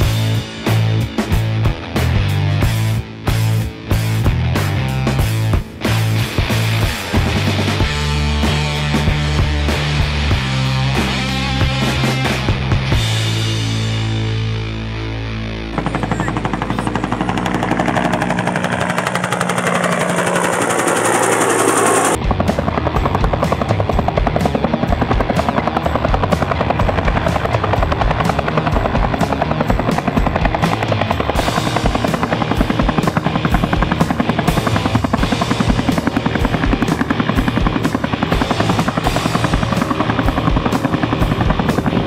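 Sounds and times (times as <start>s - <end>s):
helicopter rotor chop: 0.0s - 42.0s.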